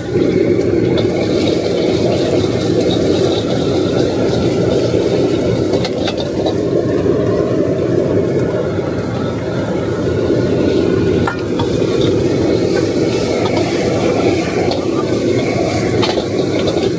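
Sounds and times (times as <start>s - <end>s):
gas wok burner roaring: 0.0s - 16.9s.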